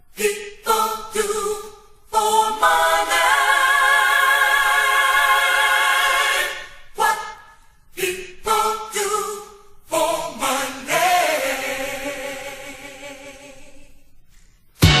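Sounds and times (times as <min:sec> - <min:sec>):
choir singing a cappella: 0:00.1 - 0:14.1.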